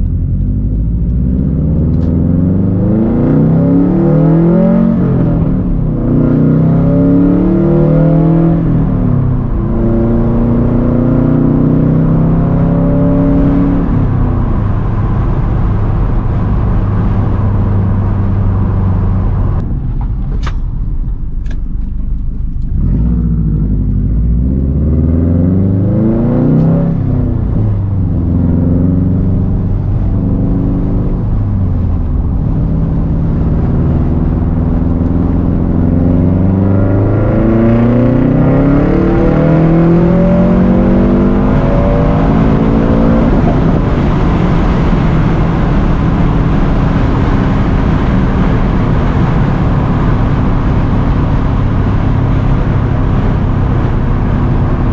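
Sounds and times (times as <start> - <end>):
loud car exhaust revving: 0.0 - 19.6, 22.5 - 54.9.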